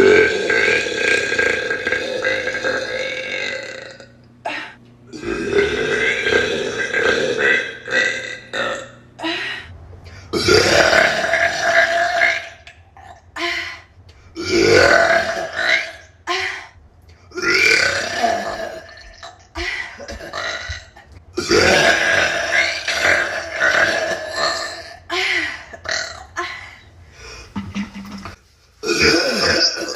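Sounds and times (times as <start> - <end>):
woman burping loudly: 0.0 - 9.6, 10.3 - 13.5, 14.4 - 16.4, 17.3 - 26.8, 27.6 - 29.9.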